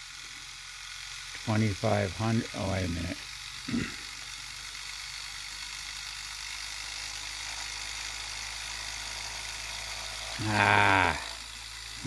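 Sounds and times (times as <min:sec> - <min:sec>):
motor rotor whirring: 0:00.0 - 0:12.0.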